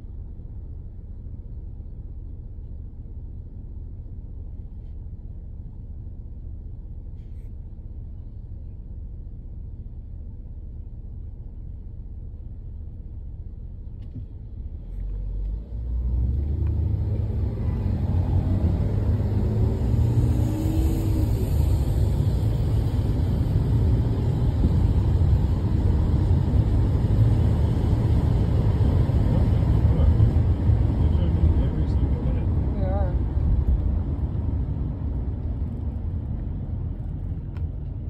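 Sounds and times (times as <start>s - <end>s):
car engine and tyre rumble: 0.0s - 38.0s.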